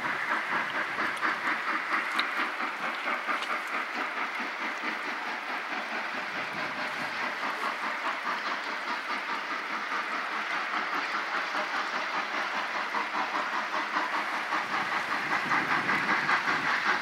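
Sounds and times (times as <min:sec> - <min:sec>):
steady steam hiss: 0:00.0 - 0:17.0
steam locomotive chuffing: 0:00.0 - 0:17.0.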